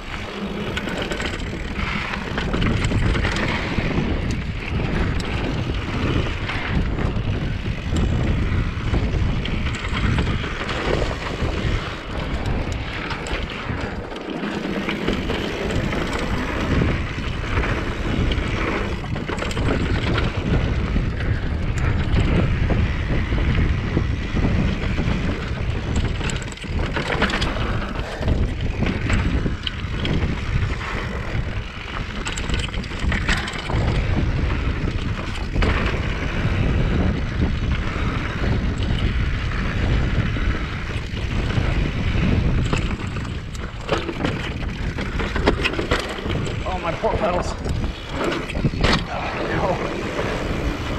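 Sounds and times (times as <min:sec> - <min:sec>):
bike rattling and knocking: 0:00.0 - 0:50.9
tyres rumbling on dirt: 0:00.0 - 0:50.9
wind buffeting microphone: 0:00.0 - 0:50.9.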